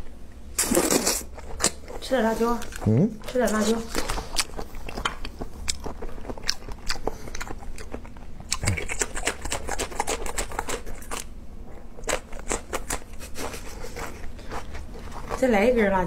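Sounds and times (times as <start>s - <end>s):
crunchy chewing of chili pepper: 0.6s - 16.0s.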